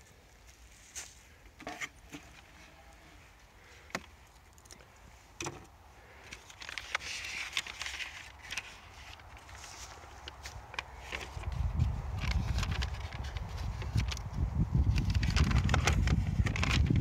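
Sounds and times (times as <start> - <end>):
rustling: 0.0 - 14.3.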